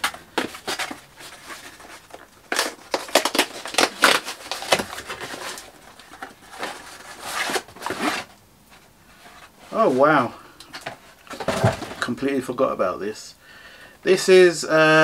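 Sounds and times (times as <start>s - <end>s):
packaging rustling and crinkling: 0.0s - 12.2s.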